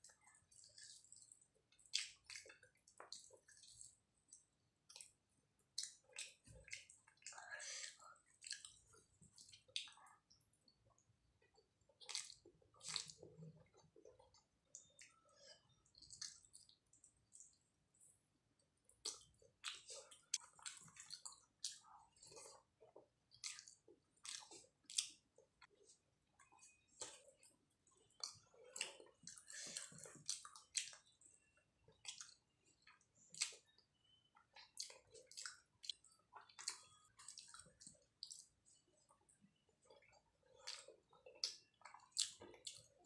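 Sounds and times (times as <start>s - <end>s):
mouth chewing with wet smacks: 0.0s - 43.0s.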